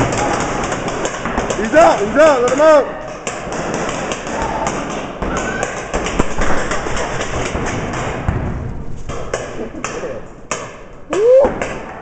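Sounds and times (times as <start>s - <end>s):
paintball guns popping: 0.0s - 12.0s.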